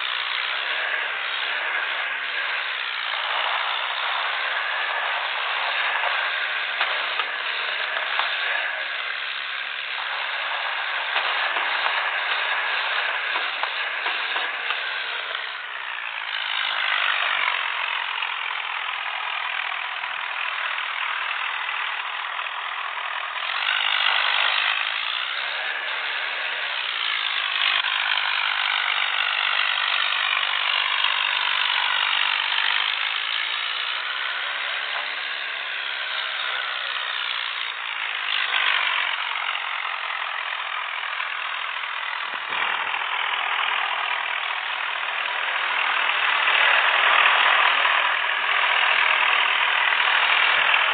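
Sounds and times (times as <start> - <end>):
tractor diesel engines under load: 0.0 - 50.9.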